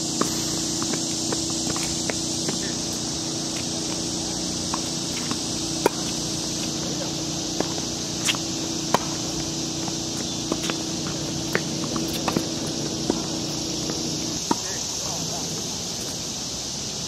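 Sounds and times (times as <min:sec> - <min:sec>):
tennis ball bouncing on court: 0:00.0 - 0:14.8
steady hiss: 0:00.0 - 0:17.0
tennis ball struck by racket: 0:00.1 - 0:14.7.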